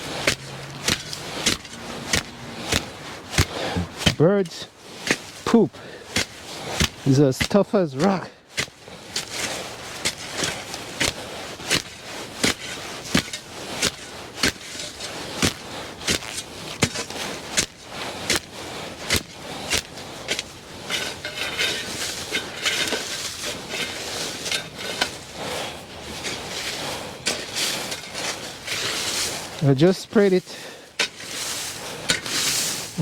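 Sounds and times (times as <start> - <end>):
hand tool striking hard droppings: 0.0 - 25.4, 26.1 - 29.6, 30.6 - 33.0
scraping: 0.0 - 33.0.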